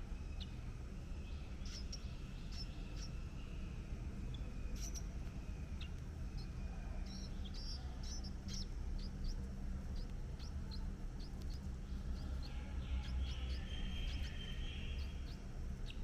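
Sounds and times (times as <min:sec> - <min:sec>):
low background rumble: 0:00.0 - 0:16.0
birds chirping: 0:00.1 - 0:16.0.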